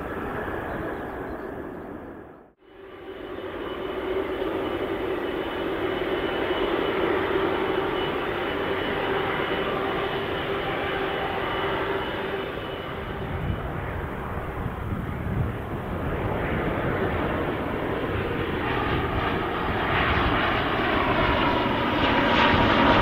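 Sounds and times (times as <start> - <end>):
high engine whine: 0.0 - 23.0
jet engines running: 0.0 - 23.0.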